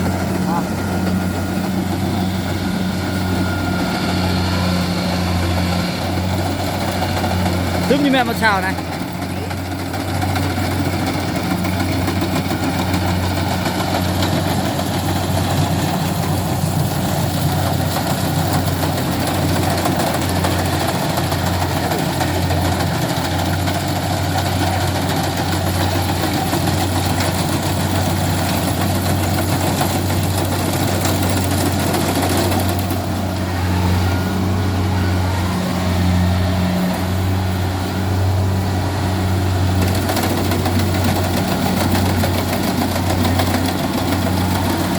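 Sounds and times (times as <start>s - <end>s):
diesel engine hum: 0.0s - 44.9s
rushing clatter of machinery: 0.0s - 44.9s.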